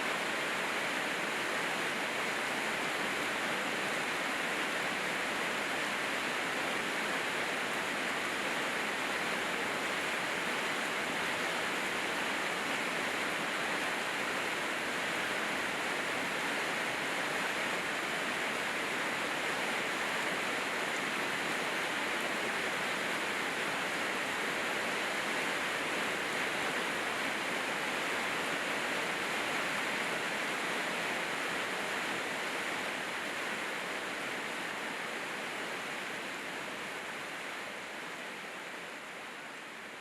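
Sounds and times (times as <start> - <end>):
steady rainfall hiss: 0.0 - 40.0.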